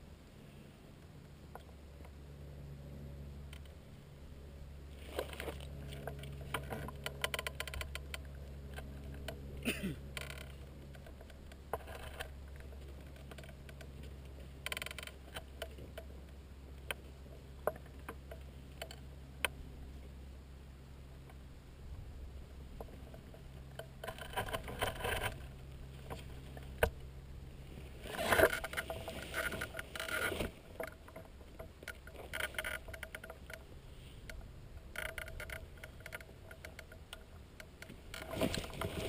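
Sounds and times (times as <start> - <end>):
rustling crackles and clicks: 4.9 - 20.2, 22.4 - 39.0.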